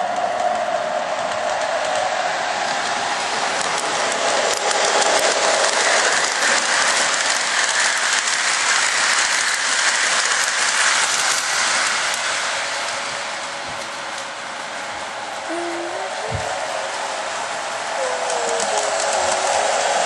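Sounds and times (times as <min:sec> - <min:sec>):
model train rattling on track: 0:00.0 - 0:20.0.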